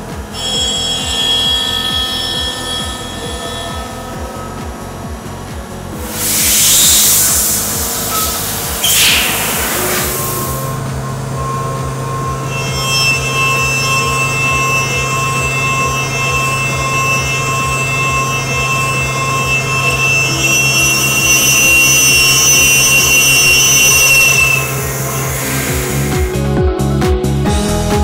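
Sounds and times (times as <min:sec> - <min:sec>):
background music with beat: 0:00.0 - 0:23.7, 0:24.3 - 0:28.0
machine spindle whining: 0:00.0 - 0:26.5.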